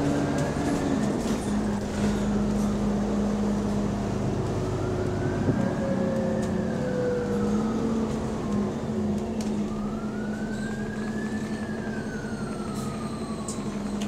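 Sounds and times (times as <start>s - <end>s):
bus engine and fan drone: 0.0s - 14.0s.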